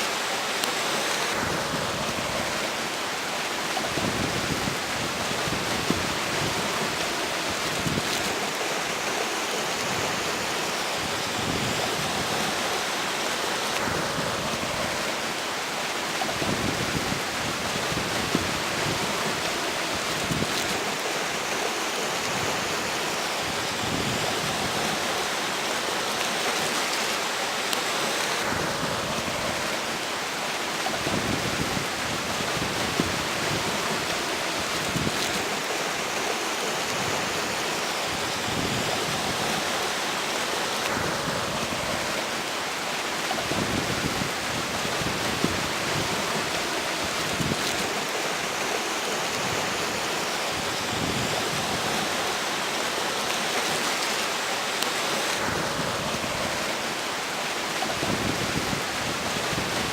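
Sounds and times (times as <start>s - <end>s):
river water rushing: 0.0s - 59.9s
strong wind gusts: 0.0s - 59.9s.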